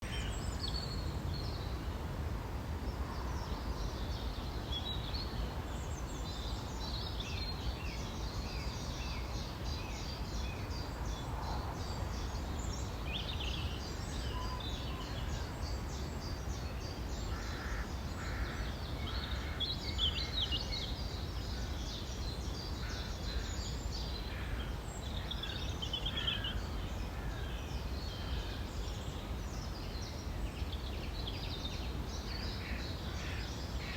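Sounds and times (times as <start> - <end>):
songbirds singing: 2.9 - 33.9.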